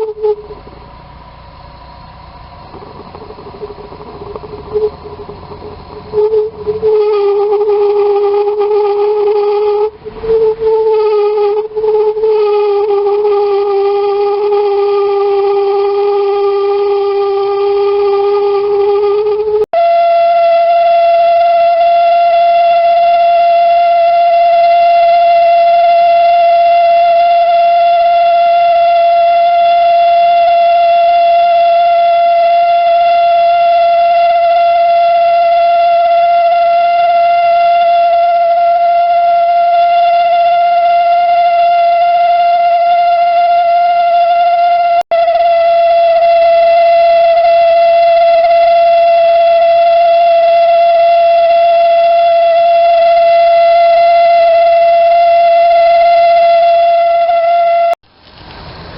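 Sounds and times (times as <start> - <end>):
heater burner whistling tone: 0.0 - 58.0.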